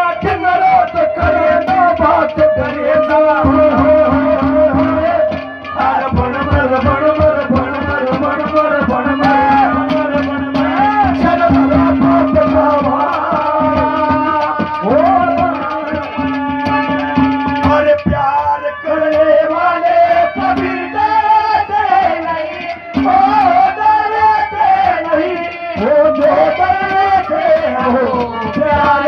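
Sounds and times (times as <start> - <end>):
bending folk melody line: 0.0 - 29.0
fast hand-drum beats: 0.0 - 29.0.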